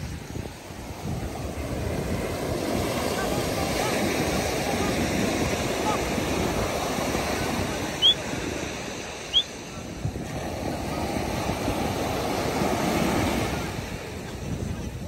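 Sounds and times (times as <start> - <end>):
surf breaking on a beach: 0.0 - 15.0.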